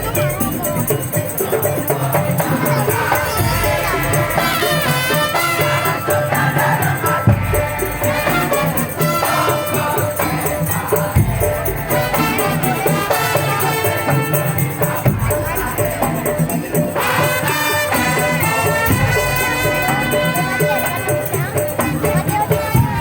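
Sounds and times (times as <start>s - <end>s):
shaken percussion: 0.0s - 23.0s.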